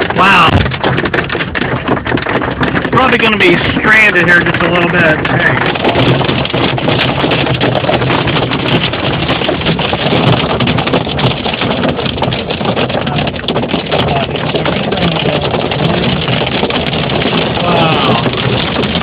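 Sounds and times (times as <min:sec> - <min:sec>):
hail and rain on a car: 0:00.0 - 0:19.0.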